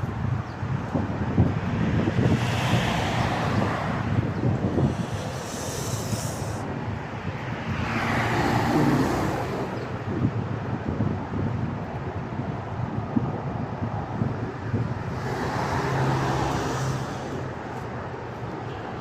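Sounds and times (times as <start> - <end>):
outdoor noise rush: 0.0 - 19.0
wind buffeting microphone: 0.0 - 19.0.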